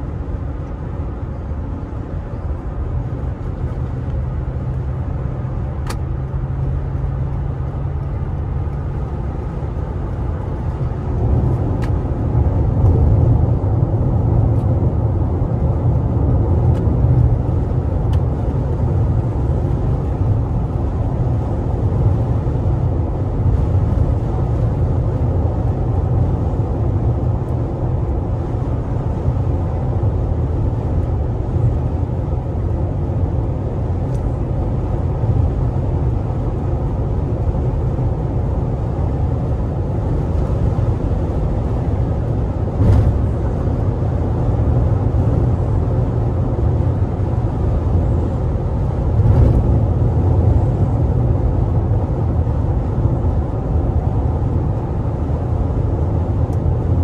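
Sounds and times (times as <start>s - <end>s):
tire and road noise in cabin: 0.0s - 57.0s.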